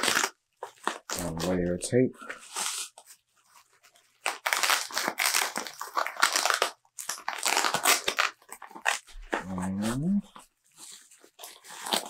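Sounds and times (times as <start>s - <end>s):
packing tape peeling: 0.0s - 1.6s, 2.4s - 9.8s, 10.8s - 12.0s
plastic wrap crinkling: 0.0s - 1.7s, 2.4s - 12.0s.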